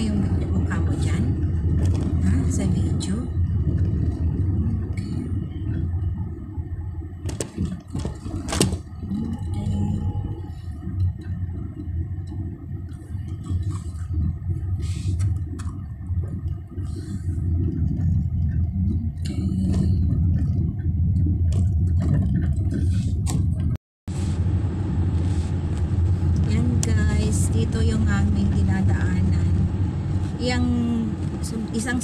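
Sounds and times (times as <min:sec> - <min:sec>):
car engine rumble and road noise: 0:00.0 - 0:32.0.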